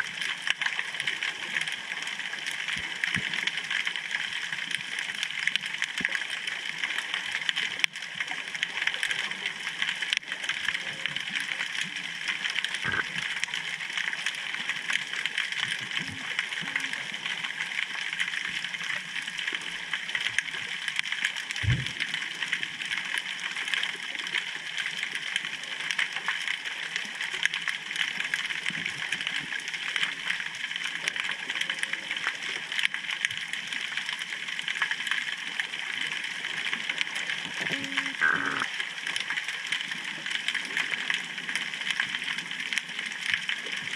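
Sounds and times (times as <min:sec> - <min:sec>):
crackling underwater hiss: 0:00.0 - 0:43.9.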